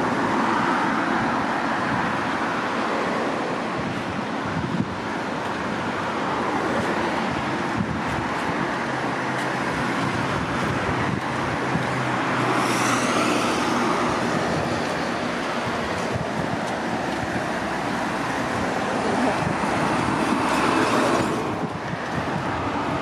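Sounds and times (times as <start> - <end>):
heavy vehicle engine hum: 0.0 - 23.0
highway traffic passing: 0.0 - 23.0.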